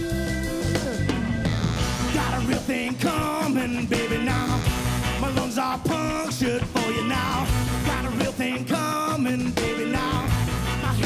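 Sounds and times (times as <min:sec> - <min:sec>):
horn section playing riffs: 0:00.0 - 0:06.2, 0:06.9 - 0:08.6, 0:10.0 - 0:11.0
bass guitar and drums: 0:00.0 - 0:11.0.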